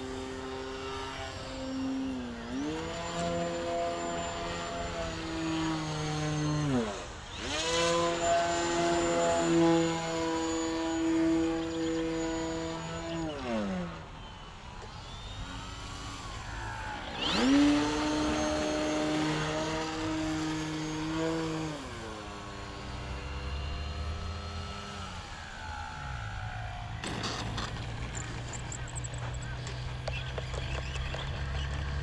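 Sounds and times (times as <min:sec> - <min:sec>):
model plane electric motor whining: 0:00.0 - 0:32.0.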